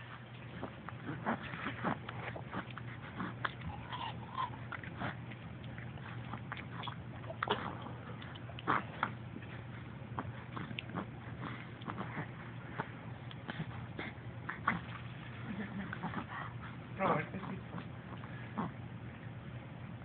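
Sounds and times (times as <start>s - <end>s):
wet licking and chewing: 0.0s - 18.7s
low hum: 0.0s - 20.0s.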